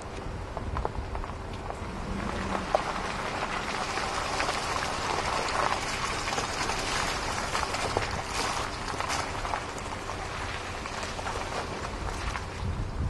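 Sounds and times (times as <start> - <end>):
footsteps on wet mud and gravel: 0.0 - 12.8.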